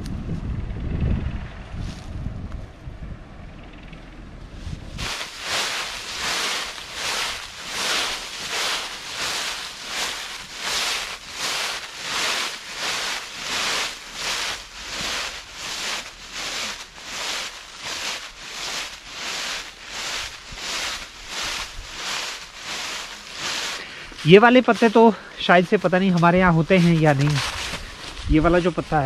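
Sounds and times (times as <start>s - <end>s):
footsteps crunching dry leaves: 4.6s - 29.0s.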